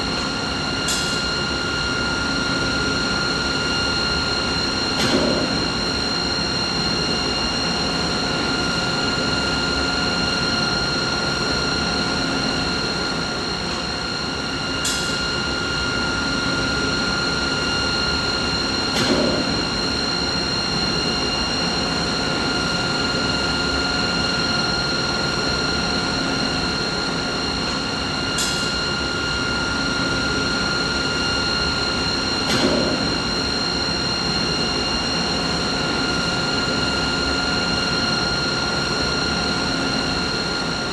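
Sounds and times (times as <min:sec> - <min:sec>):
machinery whine and rumble: 0:00.0 - 0:40.9.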